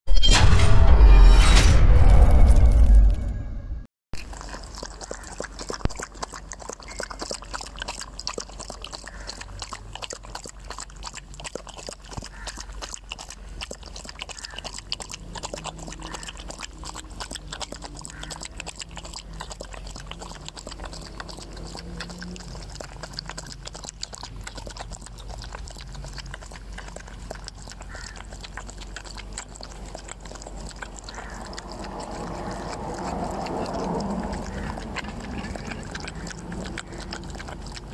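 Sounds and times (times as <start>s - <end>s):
dog lapping water: 4.2s - 37.9s.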